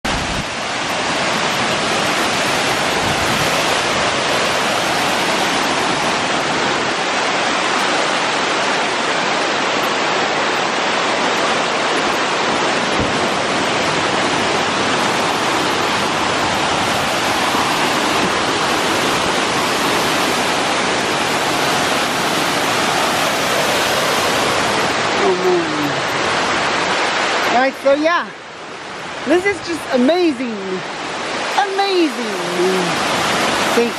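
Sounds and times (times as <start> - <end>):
waterfall cascading into pond: 0.1 - 33.9.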